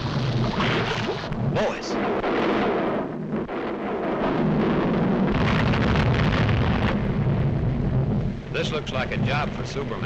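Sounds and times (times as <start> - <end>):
volcano eruption rumble: 0.0 - 10.0.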